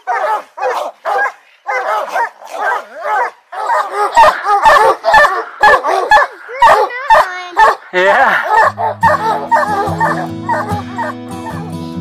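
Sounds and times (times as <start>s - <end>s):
hounds barking and baying: 0.0s - 11.8s.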